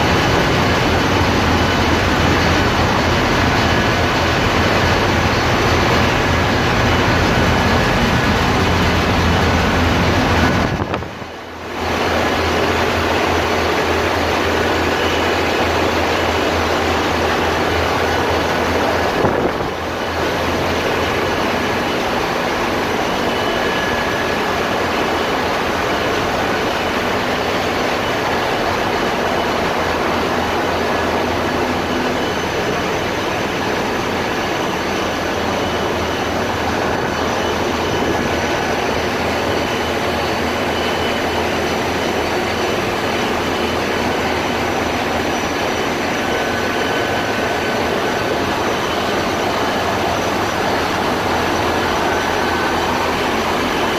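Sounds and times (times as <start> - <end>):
diesel machinery running: 0.0 - 53.9.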